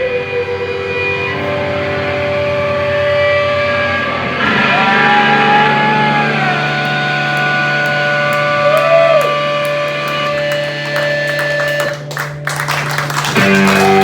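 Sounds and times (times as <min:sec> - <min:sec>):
electric guitars ringing out: 0:00.0 - 0:14.0
steady low drone: 0:00.0 - 0:14.0.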